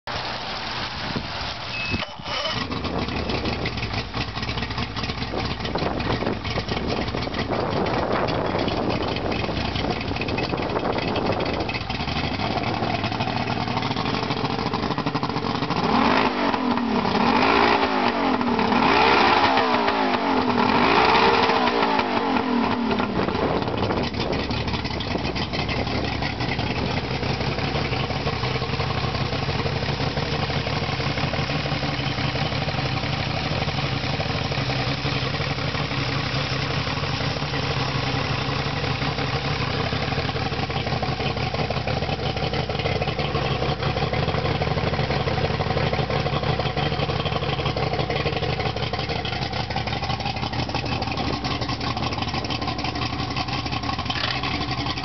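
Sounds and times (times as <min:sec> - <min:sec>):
outboard motor idling and revving: 0:00.1 - 0:55.0.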